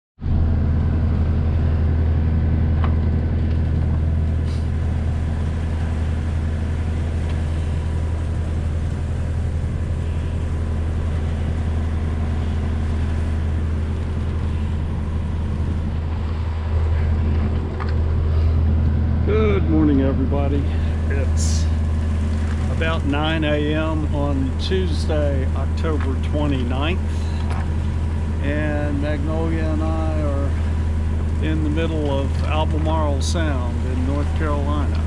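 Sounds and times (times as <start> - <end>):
boat engine drone: 0.2 - 35.0.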